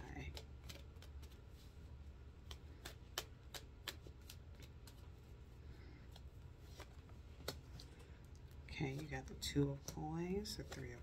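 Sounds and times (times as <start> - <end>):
cards being shuffled: 0.0 - 5.4, 6.0 - 11.0.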